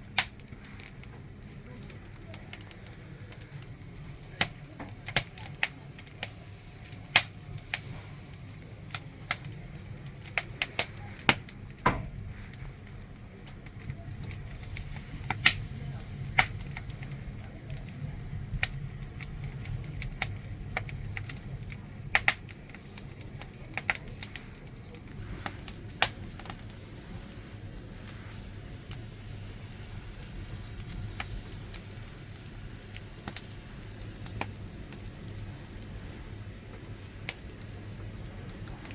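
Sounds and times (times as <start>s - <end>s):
firewood fire crackling: 0.0s - 38.9s.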